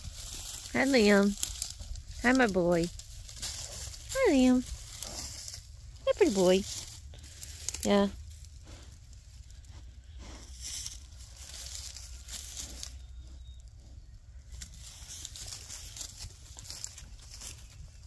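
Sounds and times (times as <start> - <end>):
horse tearing and chewing grass: 0.0 - 18.0
low rumble: 0.0 - 18.0.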